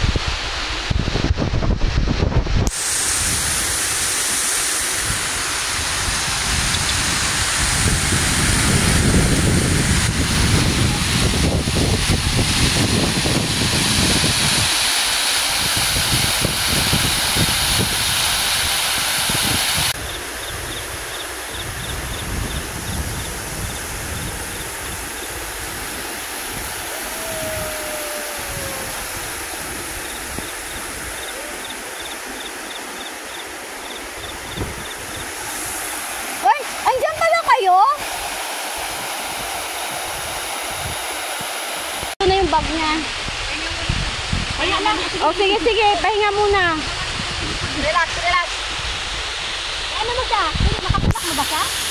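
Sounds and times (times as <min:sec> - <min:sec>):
outdoor hiss: 0:00.0 - 0:51.9
stream rushing over rocks: 0:00.0 - 0:51.9.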